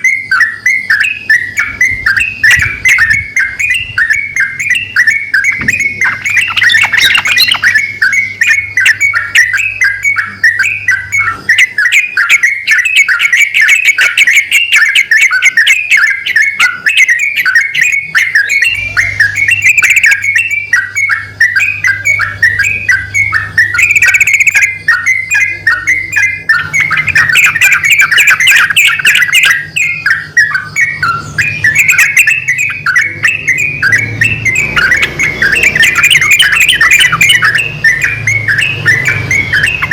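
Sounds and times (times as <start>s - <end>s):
bulbuls chattering: 0.0s - 39.9s.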